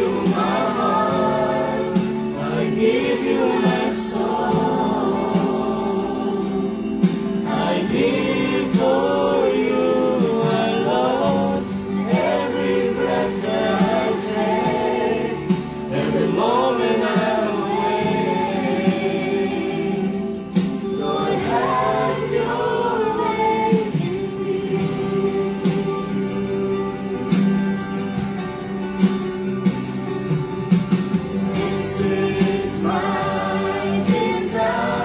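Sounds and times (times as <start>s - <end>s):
congregation singing: 0.0s - 28.7s, 31.2s - 35.0s.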